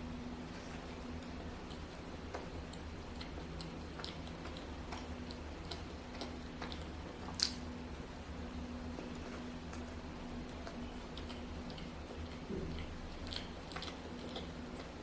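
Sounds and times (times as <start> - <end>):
close-miked chewing: 0.3 - 15.0.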